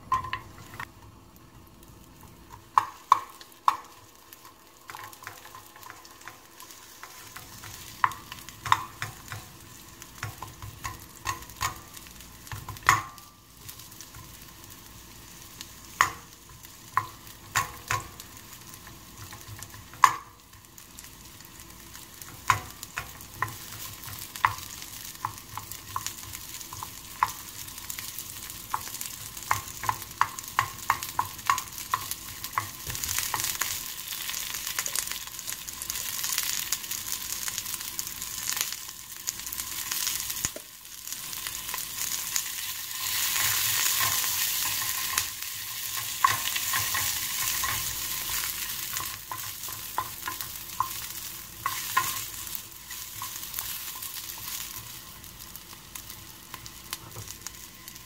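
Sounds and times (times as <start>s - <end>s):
onion sizzling in oil: 0.0s - 58.0s.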